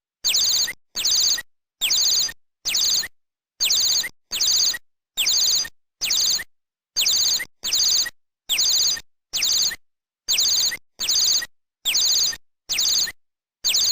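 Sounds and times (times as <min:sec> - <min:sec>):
small bird chirping: 0:00.3 - 0:06.4, 0:07.0 - 0:13.9.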